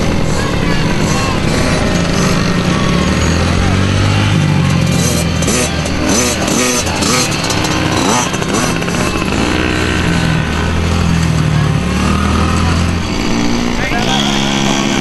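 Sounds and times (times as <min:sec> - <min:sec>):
mini dirt bike engines revving: 0:00.0 - 0:15.0.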